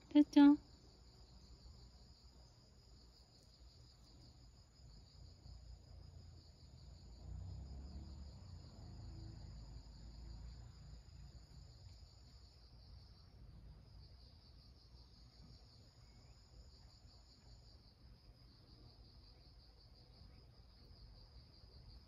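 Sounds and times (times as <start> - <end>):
insects chirring: 0.1 - 22.0.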